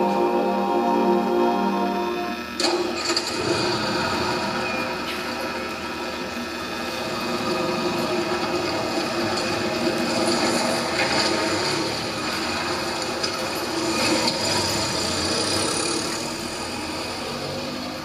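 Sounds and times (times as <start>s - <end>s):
vehicle engine running: 3.0s - 18.0s.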